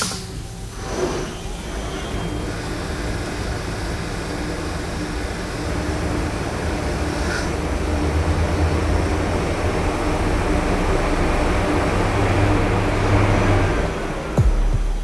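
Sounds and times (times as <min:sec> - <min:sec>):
lathe machine low hum: 0:00.0 - 0:15.0.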